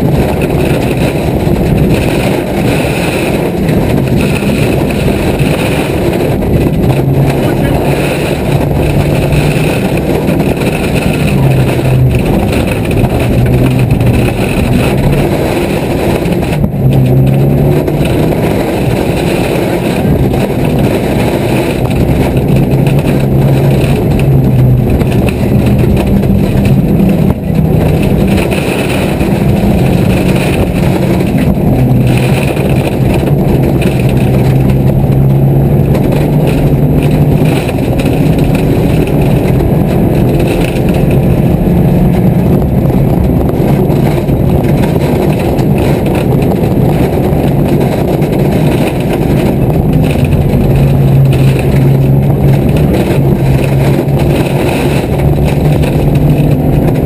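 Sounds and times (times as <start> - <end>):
car engine from inside cabin: 0.0 - 57.0
road and tyre noise: 0.0 - 57.0.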